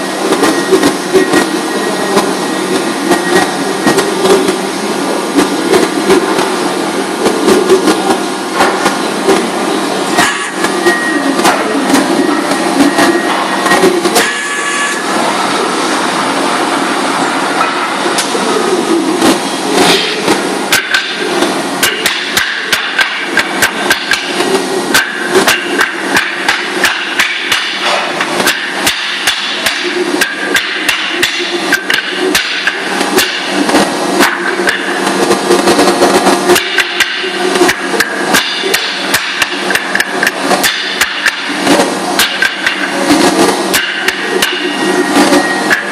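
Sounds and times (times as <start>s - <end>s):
factory machinery hum: 0.0s - 45.9s.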